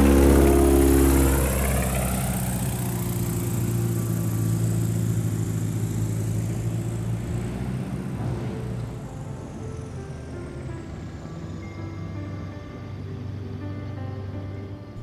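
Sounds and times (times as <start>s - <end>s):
plane piston engine droning: 0.0s - 15.0s.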